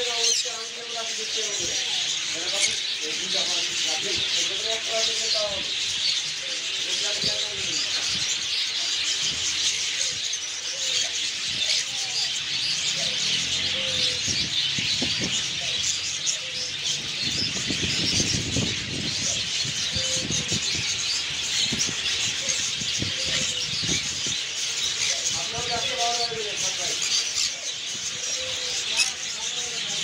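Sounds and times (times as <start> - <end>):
caged birds chirping and twittering: 0.0 - 30.0.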